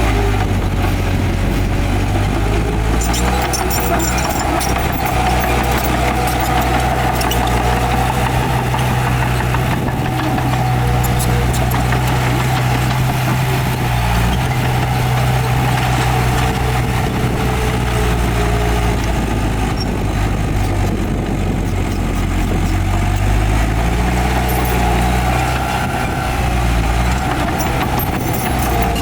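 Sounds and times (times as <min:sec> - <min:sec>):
diesel machinery engine running: 0:00.0 - 0:29.0.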